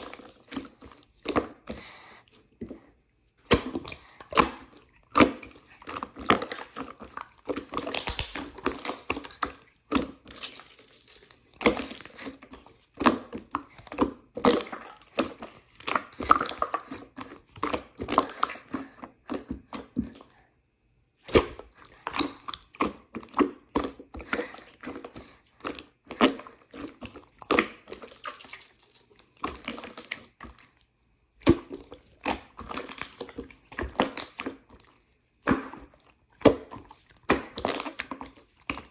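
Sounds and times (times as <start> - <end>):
hands squishing slime: 0.0 - 20.5, 21.2 - 38.9.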